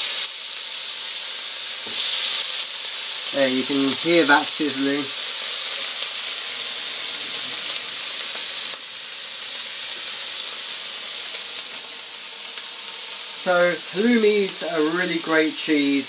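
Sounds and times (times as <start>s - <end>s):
cheese sizzling on griddle pan: 0.0s - 16.0s.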